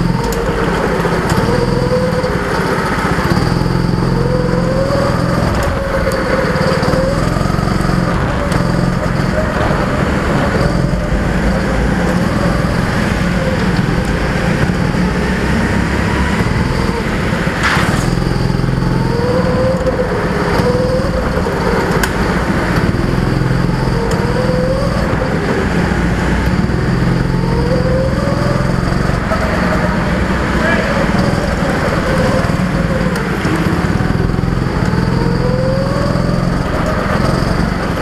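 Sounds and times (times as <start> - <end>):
go-kart engine revving: 0.0 - 38.0.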